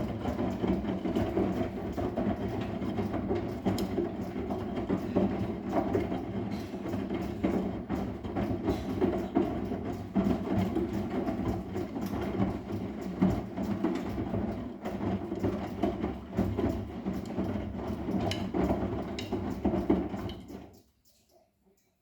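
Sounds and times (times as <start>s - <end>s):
washing machine drum rumbling: 0.0s - 20.7s
knocks and clicks: 0.0s - 20.8s.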